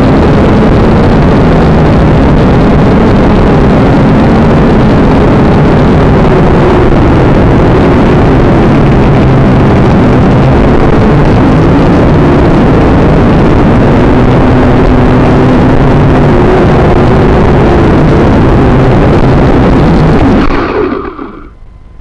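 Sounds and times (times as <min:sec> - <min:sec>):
air rushing on microphone: 0:00.0 - 0:21.6.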